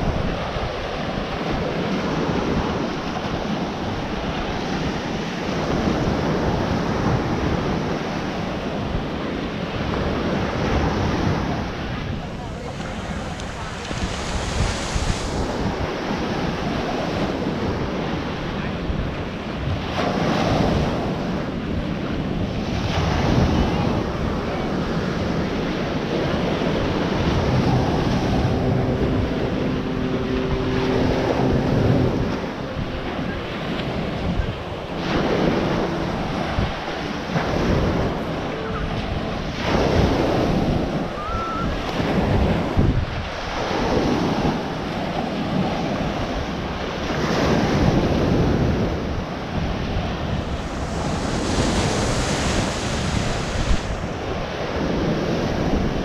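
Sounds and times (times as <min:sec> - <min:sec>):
surf breaking on beach: 0:00.0 - 0:56.0
wind buffeting microphone: 0:00.0 - 0:56.0.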